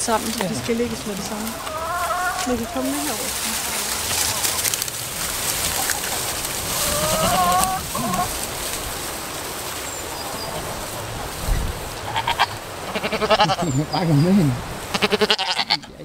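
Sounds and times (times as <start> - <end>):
hen calling: 0.0 - 16.0
steady background hiss: 0.0 - 16.0.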